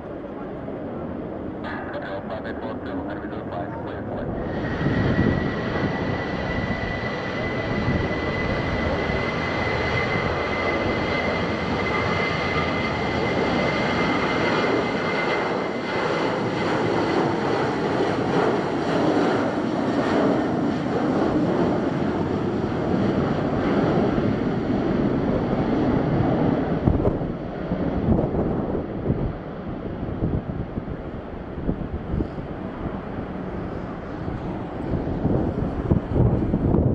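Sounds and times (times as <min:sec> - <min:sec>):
jet engine high whine: 0:00.0 - 0:36.9
jet engine rumble: 0:00.0 - 0:36.9.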